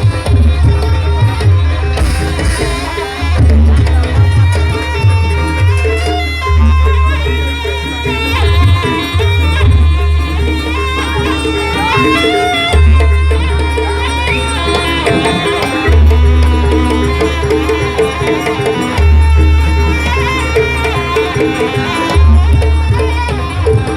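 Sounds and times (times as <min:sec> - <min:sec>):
drums: 0:00.0 - 0:23.9
heavy pulsing bass: 0:00.0 - 0:23.9
wavering melodic line: 0:00.0 - 0:23.9.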